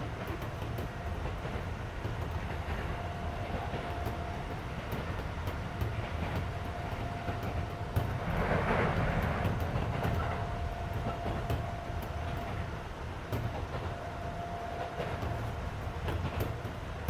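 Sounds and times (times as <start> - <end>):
air conditioning running: 0.0 - 17.0
train wheels rumbling on rail: 0.0 - 17.0
light clicks from track: 0.1 - 16.9.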